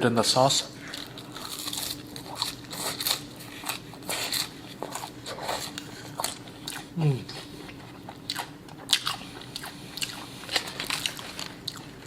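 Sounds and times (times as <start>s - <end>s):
faint steady hum: 0.0s - 12.0s
chewing crispy fries: 0.6s - 12.0s.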